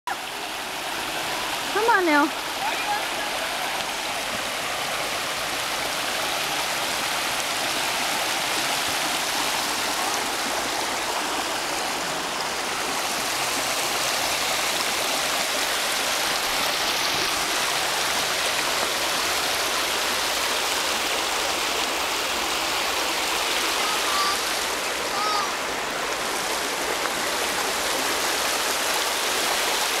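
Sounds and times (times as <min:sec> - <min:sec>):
creek water rushing over rocks: 0:00.1 - 0:30.0.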